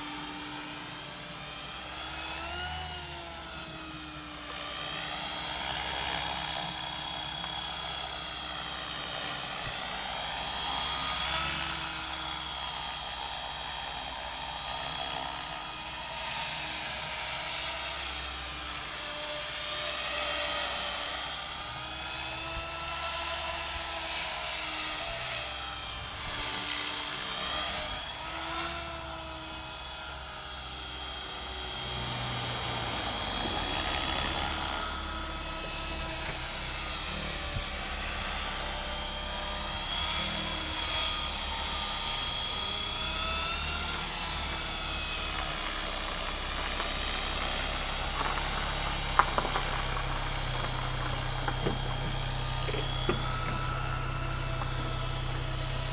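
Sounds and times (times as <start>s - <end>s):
helicopter rotor noise: 0.0s - 55.9s
rc helicopter motor whine: 0.0s - 55.9s.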